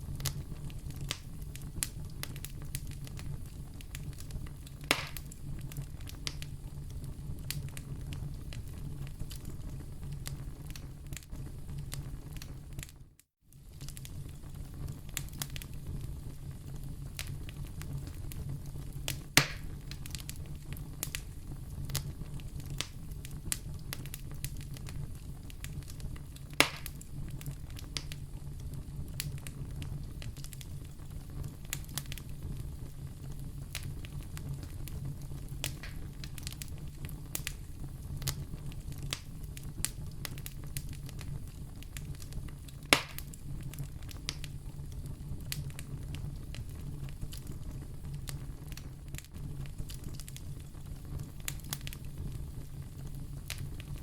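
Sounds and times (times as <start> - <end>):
fire crackling: 0.0 - 54.0
fire flames rumbling: 0.0 - 54.0
fire popping: 0.0 - 54.0.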